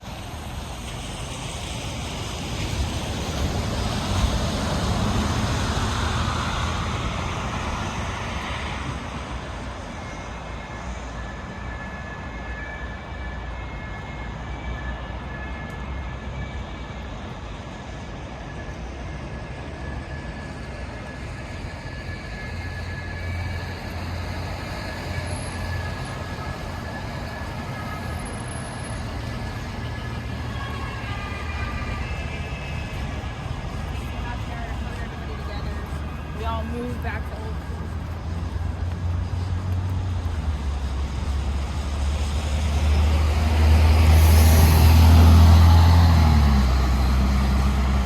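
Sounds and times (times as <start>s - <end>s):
city street traffic: 0.0s - 48.0s
low rumble of passing vehicles: 0.0s - 48.0s.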